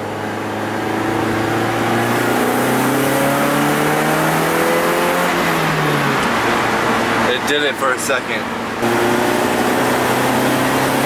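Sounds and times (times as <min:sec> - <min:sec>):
car engine accelerating: 0:00.0 - 0:07.5, 0:08.5 - 0:11.0.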